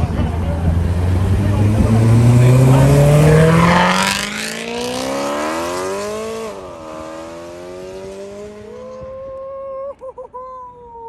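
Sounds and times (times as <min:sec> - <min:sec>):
car accelerating away: 0:00.0 - 0:09.4.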